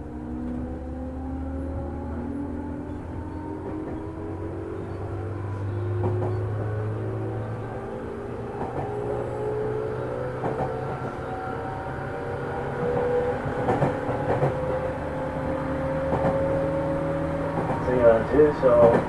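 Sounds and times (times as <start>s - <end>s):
steady train rumble: 0.0s - 19.0s.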